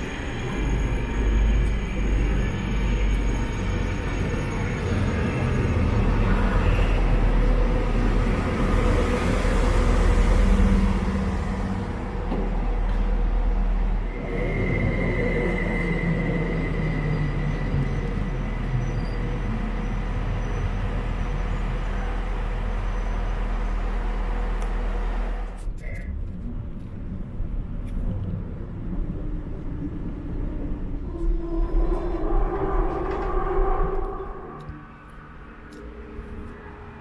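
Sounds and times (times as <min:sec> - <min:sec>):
train rumbling by: 0:00.0 - 0:25.6, 0:26.5 - 0:37.0.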